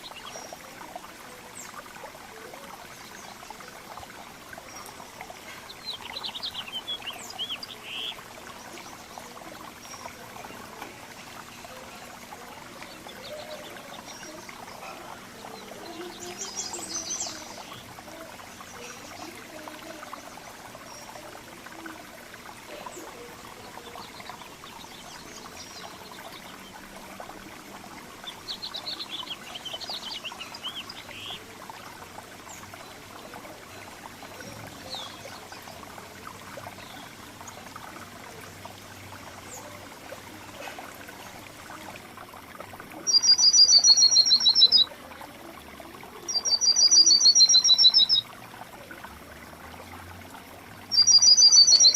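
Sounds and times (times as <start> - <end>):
songbirds chirping: 0.0 - 51.9.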